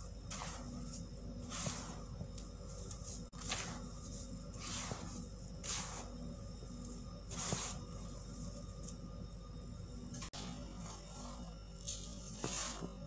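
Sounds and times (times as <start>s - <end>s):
powder sifting through fingers: 0.0s - 9.0s, 10.2s - 13.0s.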